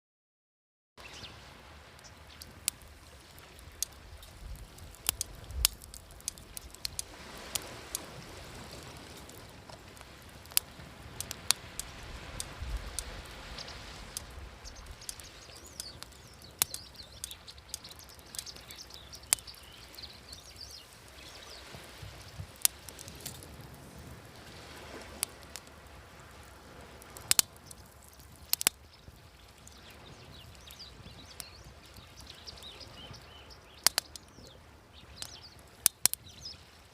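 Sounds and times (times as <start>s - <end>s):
waves washing: 1.0s - 36.9s
wood fire crackling: 1.4s - 36.9s.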